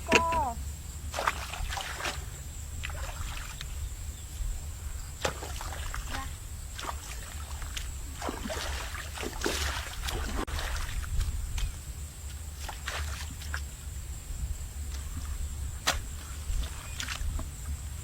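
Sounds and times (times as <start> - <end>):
steady low rumble: 0.0 - 18.0
water and mud splashing: 0.0 - 18.0.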